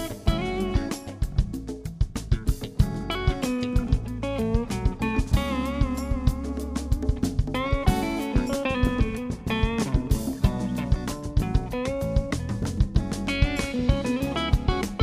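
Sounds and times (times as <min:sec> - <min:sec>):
electric guitar lead: 0:00.0 - 0:15.0
rock band playing: 0:00.0 - 0:15.0.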